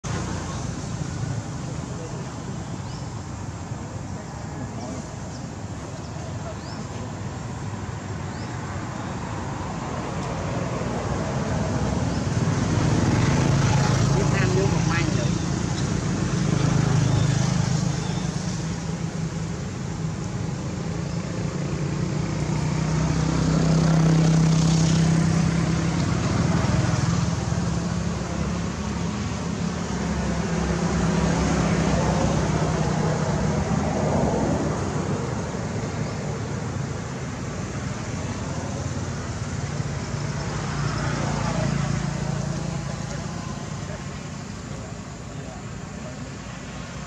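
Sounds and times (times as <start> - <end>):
low rumble of traffic: 0.0 - 47.0.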